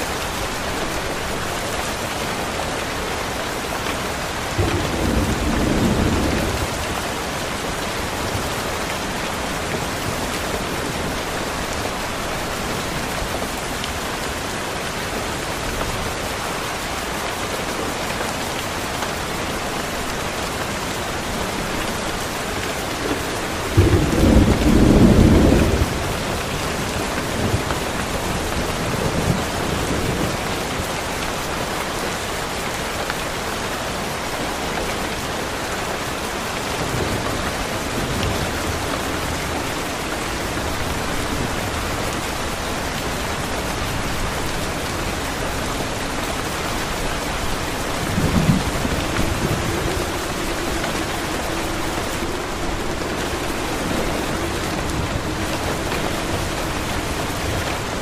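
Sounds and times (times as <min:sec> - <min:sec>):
rain hissing: 0:00.0 - 0:58.0
thunder rumbling: 0:04.0 - 0:16.8, 0:18.7 - 0:31.0, 0:36.6 - 0:58.0.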